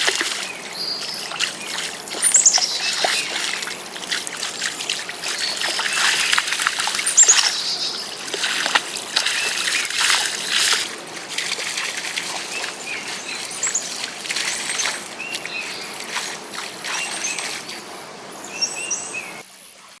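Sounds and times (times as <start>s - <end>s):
birds chirping: 0.0s - 19.4s
water splashing and sloshing: 0.0s - 19.4s
stream water trickling: 0.0s - 19.6s.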